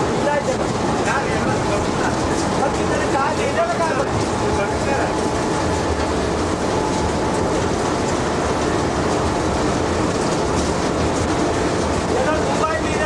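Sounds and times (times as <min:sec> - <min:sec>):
locomotive running: 0:00.0 - 0:13.0
train wheels on rails: 0:00.0 - 0:13.0.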